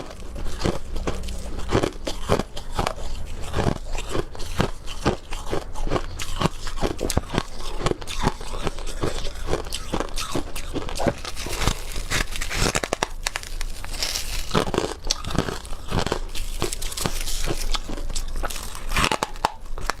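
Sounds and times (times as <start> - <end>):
chewing crunchy frost: 0.0 - 20.0.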